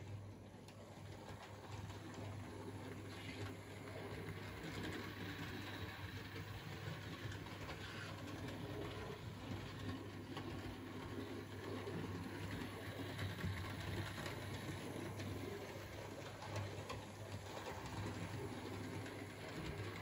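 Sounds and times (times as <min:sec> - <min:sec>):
model train motor humming: 0:01.2 - 0:20.0.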